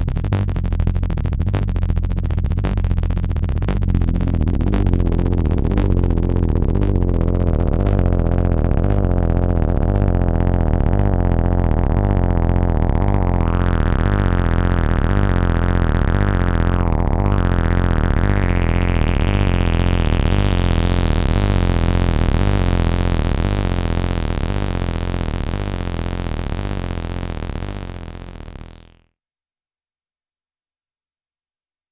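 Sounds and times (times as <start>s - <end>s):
acid synth bassline: 0.0s - 29.0s.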